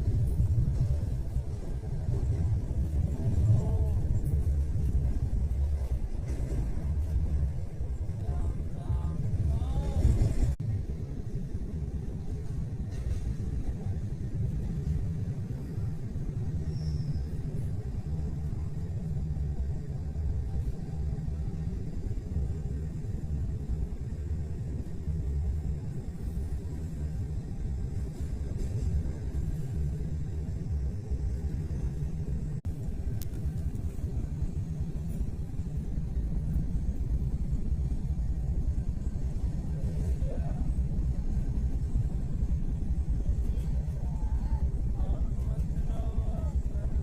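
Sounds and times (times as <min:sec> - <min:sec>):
train rumbling along track: 0:00.0 - 0:47.0.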